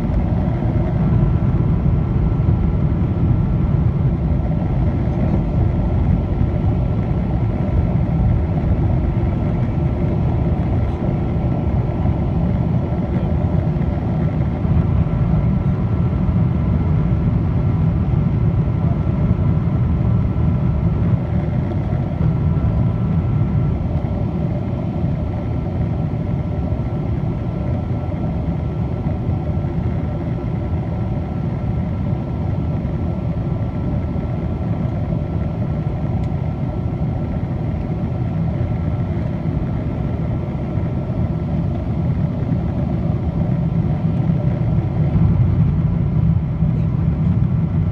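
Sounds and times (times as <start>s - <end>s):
aircraft cabin low roar: 0.0s - 47.9s
faint steady whine: 0.0s - 47.9s.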